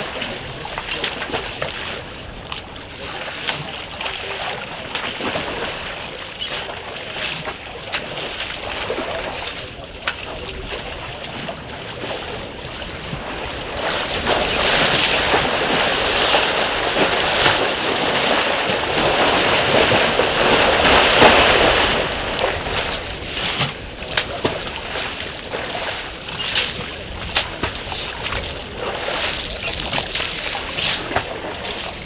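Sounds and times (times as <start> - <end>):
elephants splashing in water: 0.0 - 32.0.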